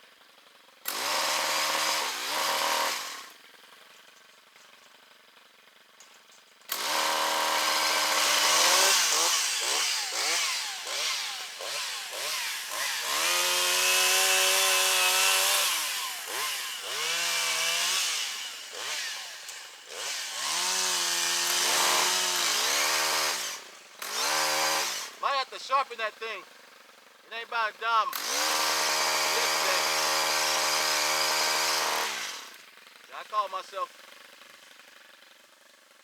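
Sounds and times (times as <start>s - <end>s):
chainsaw revving and cutting: 0.8s - 3.4s, 6.7s - 25.5s, 26.2s - 36.0s.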